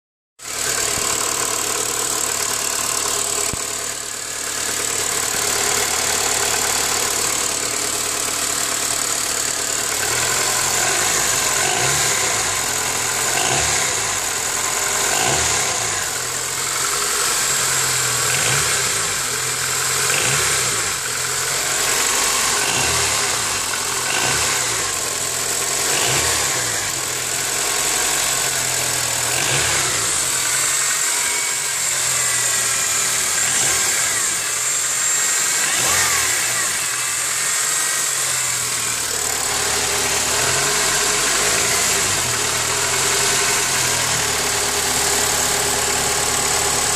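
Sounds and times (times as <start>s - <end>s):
car engine idling: 0.4s - 46.9s.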